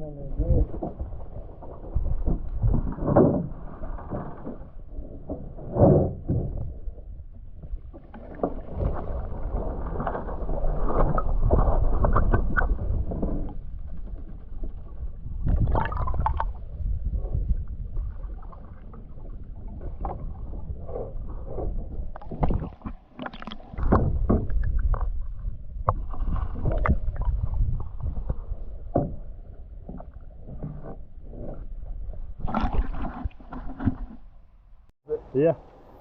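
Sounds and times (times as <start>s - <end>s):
water sloshing around a canoe: 0.0s - 34.9s.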